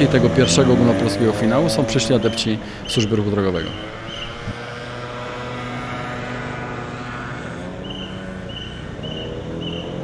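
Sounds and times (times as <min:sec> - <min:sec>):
motor scooter engines: 0:00.0 - 0:10.0.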